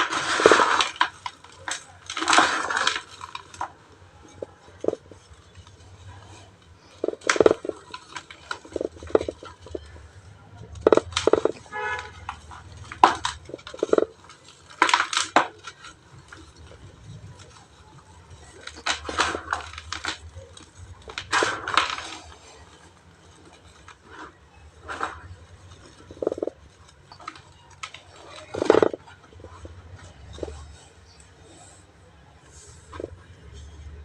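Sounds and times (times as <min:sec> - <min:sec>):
cement lumps crunching by hand: 0:00.0 - 0:31.8.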